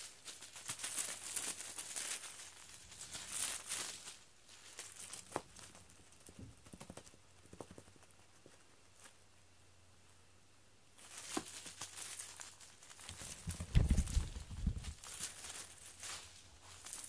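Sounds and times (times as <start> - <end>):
toy rustling and tapping: 0.0 - 9.2, 11.0 - 17.0.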